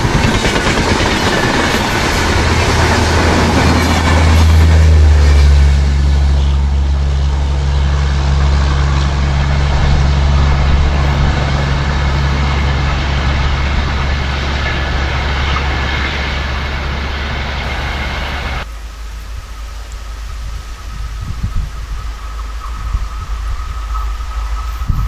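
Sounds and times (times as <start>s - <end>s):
wheels rushing on rail: 0.0s - 25.0s
deep diesel drone: 0.9s - 25.0s.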